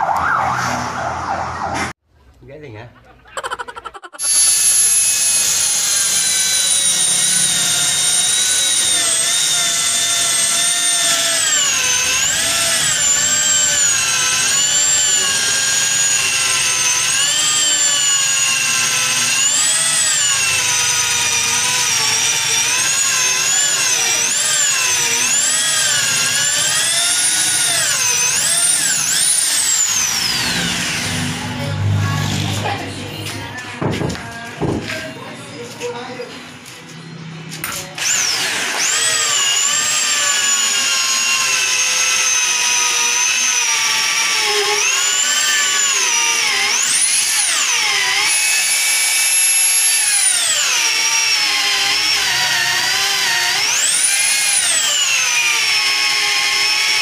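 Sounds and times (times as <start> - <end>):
electric drill boring wood: 4.2 - 32.8, 37.8 - 57.0.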